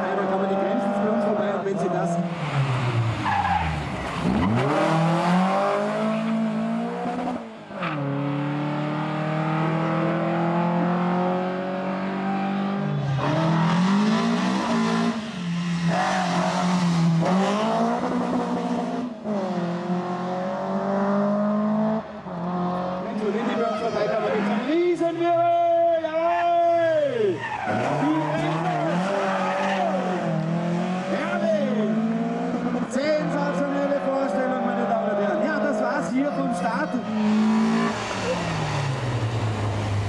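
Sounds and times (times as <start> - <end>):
rally car engine at high revs: 0.0 - 23.5, 27.4 - 40.0.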